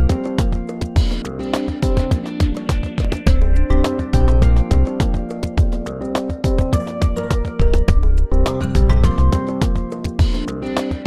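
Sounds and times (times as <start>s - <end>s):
instrumental music with heavy bass: 0.0s - 11.0s.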